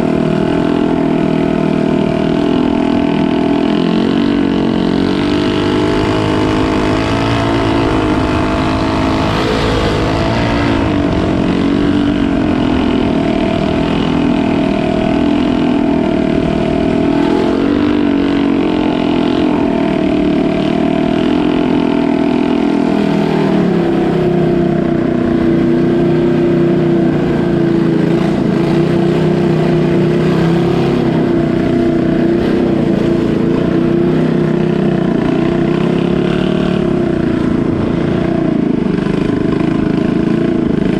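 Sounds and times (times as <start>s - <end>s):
boat engine running loudly: 0.0s - 40.9s.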